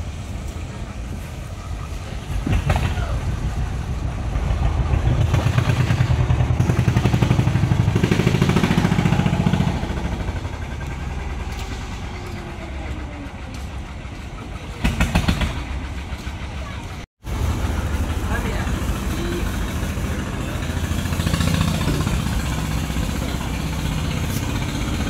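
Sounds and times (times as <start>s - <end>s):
boat engine running: 2.2s - 25.0s.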